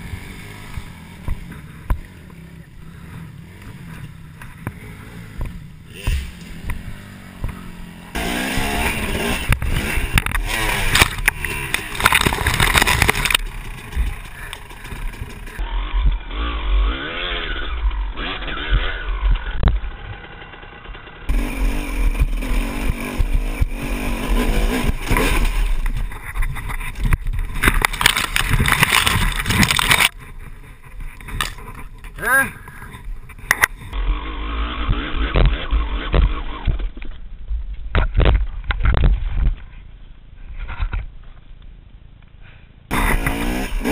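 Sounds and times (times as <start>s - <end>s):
dirt bike engines revving: 0.0s - 37.1s, 42.9s - 43.9s.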